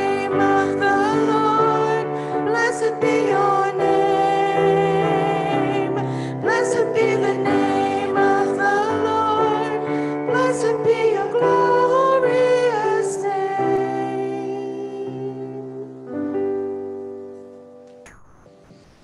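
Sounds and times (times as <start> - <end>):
sung melody: 0.0 - 19.0.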